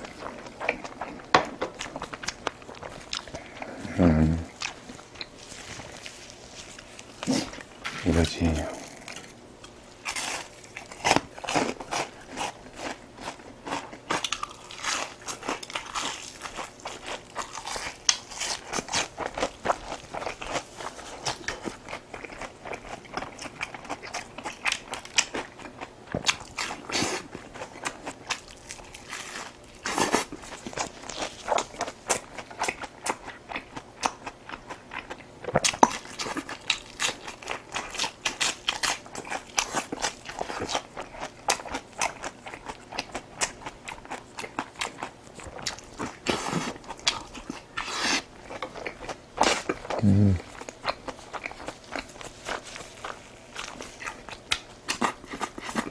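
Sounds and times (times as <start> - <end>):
person chewing and crunching food: 0.0 - 55.9.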